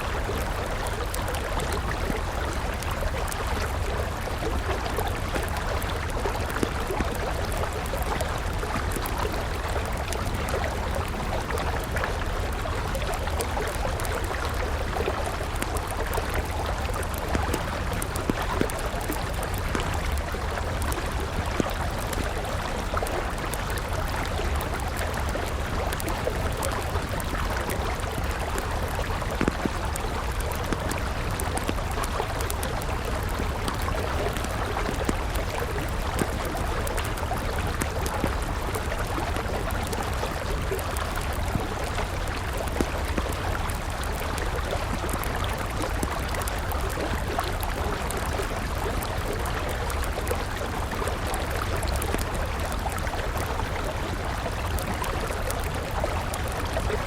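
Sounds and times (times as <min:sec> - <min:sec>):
river running: 0:00.0 - 0:57.0
campfire crackling: 0:00.1 - 0:57.0.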